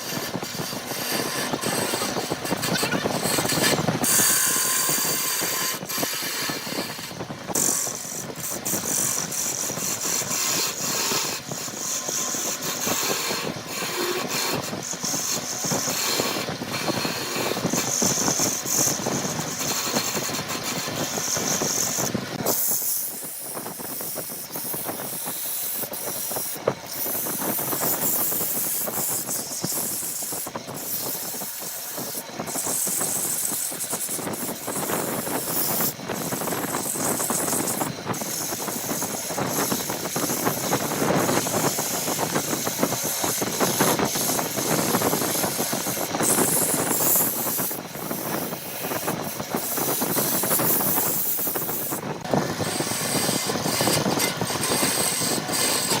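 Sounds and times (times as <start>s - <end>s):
woodworking machinery cutting wood: 0.0s - 56.0s.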